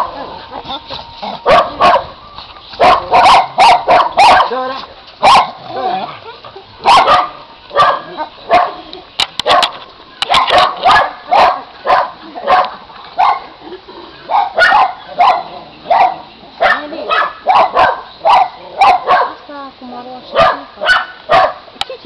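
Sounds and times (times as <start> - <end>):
dogs barking: 0.0 - 0.6, 1.4 - 2.2, 2.8 - 6.2, 6.8 - 13.6, 14.2 - 19.4, 20.3 - 21.7.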